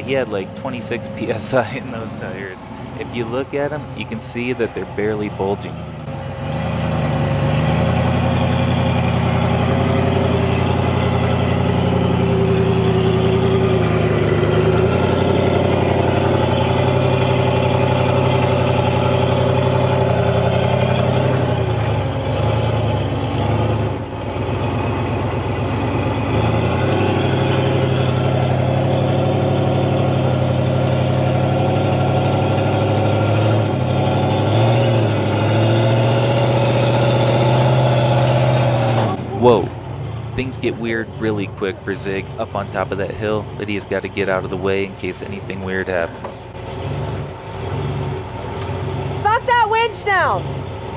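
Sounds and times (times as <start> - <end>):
engine running under load: 0.0 - 50.9.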